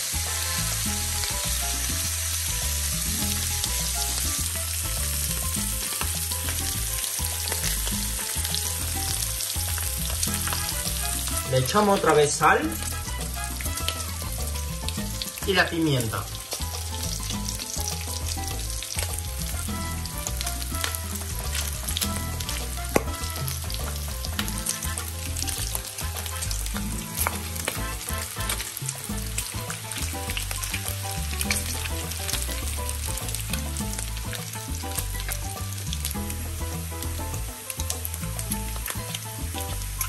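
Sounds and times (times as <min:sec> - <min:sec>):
bacon sizzling in a pan: 0:00.0 - 0:40.0
fat crackling and popping: 0:00.0 - 0:40.0.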